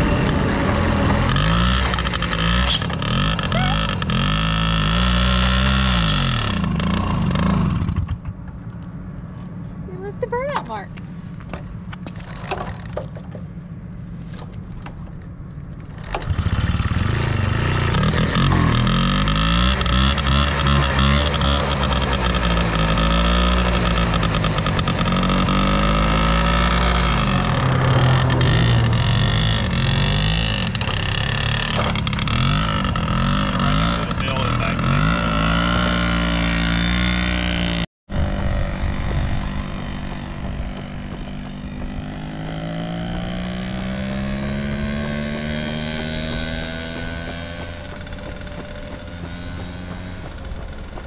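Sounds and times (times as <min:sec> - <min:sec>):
moped engine revving: 0:00.0 - 0:08.4, 0:15.8 - 0:51.0.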